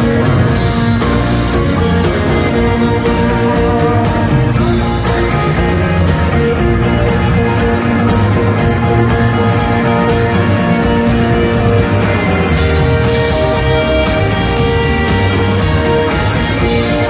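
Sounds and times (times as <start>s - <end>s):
bass: 0.0s - 17.0s
drums with steady beat: 0.0s - 17.0s
electric guitars: 0.0s - 17.0s.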